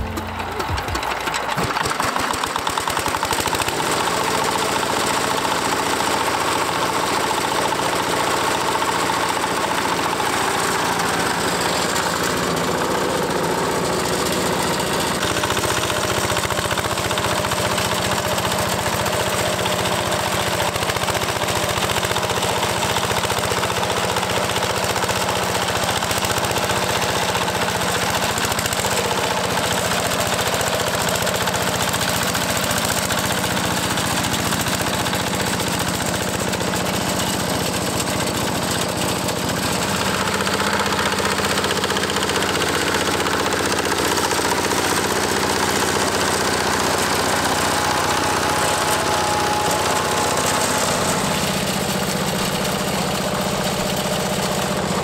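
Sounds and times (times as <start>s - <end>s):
diesel engine knocking: 0.0s - 55.0s
rotary tiller in soil: 0.0s - 55.0s.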